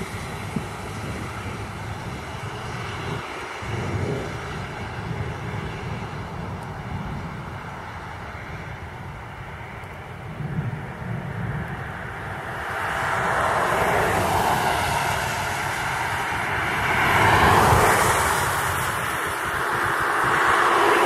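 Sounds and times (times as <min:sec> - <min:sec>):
highway traffic passing: 0:00.0 - 0:21.0.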